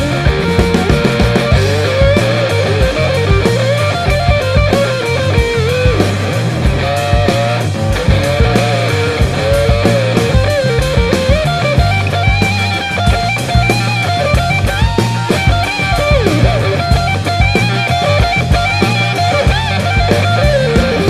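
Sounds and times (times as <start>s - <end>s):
rock music with guitar and drums: 0.0s - 21.0s.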